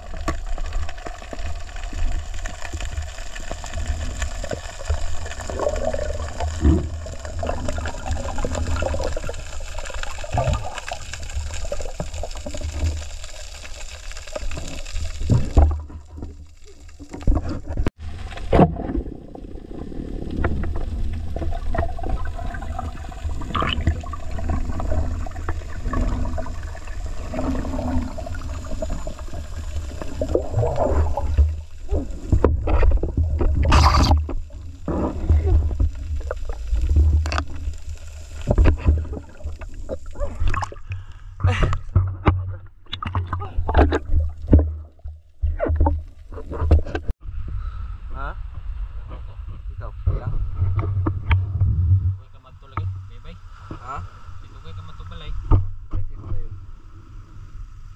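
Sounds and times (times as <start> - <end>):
underwater rumble: 0.0 - 57.9.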